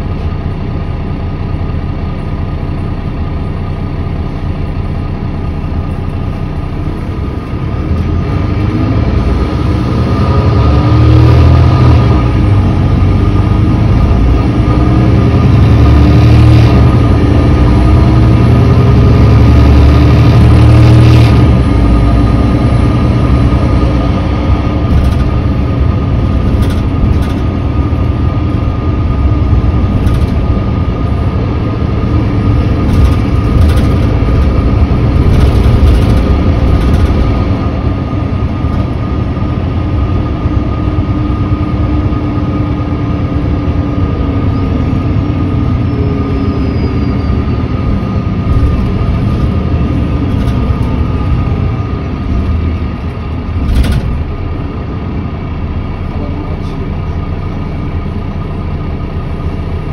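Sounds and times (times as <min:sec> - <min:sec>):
diesel engine idling: 0:00.0 - 0:10.1, 0:21.4 - 0:59.9.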